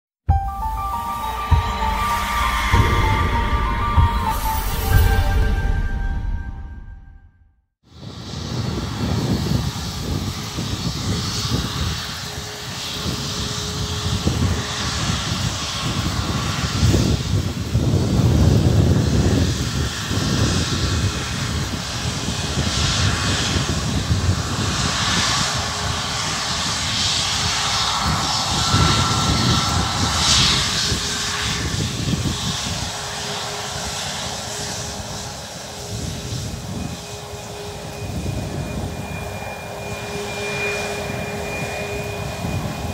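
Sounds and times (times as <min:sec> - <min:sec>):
jet engines rumbling: 0:08.0 - 0:42.9.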